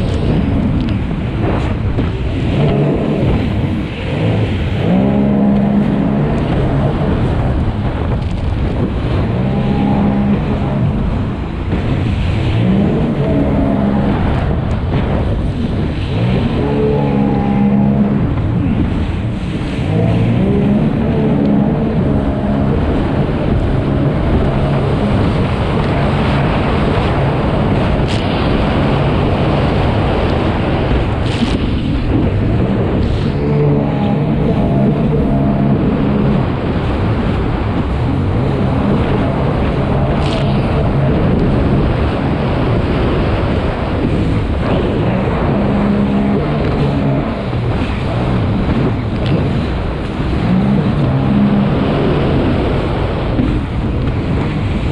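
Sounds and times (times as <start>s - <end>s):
rush of water and wind: 0.0s - 54.9s
watercraft engine running: 0.0s - 54.9s.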